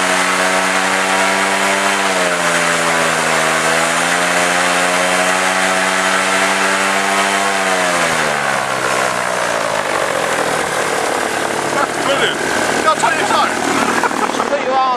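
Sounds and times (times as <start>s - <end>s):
paramotor engine and propeller: 0.0s - 14.9s.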